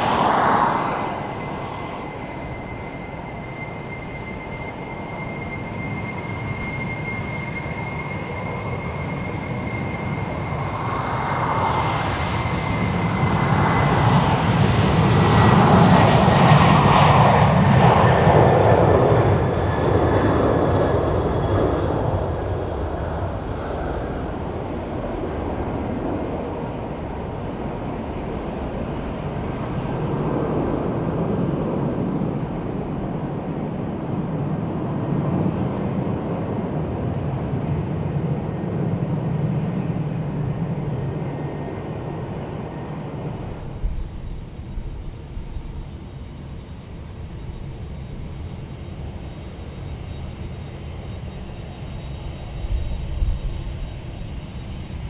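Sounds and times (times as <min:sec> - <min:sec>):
faint engine whine: 0:00.0 - 0:55.0
jet airliner engines passing: 0:00.0 - 0:55.0.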